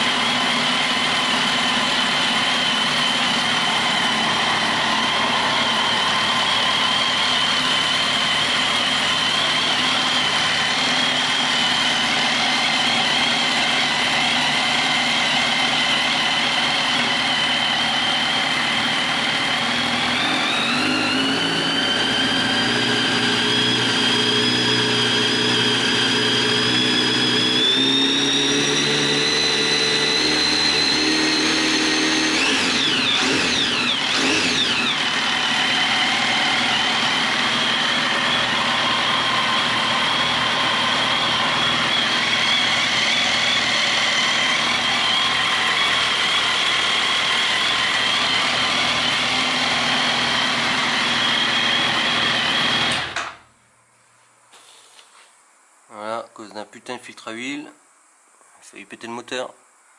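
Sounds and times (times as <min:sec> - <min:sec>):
motorcycle engine idling: 0:00.0 - 0:20.2, 0:21.9 - 0:52.9.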